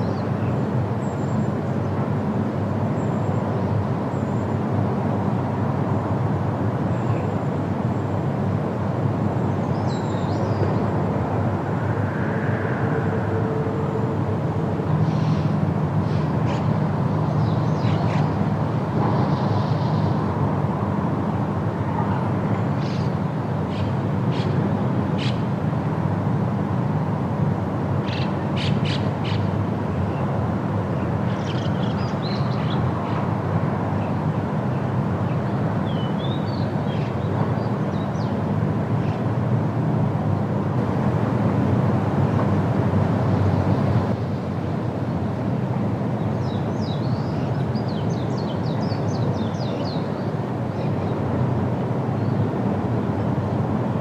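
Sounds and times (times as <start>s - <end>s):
wind rushing through trees: 0.0s - 54.0s.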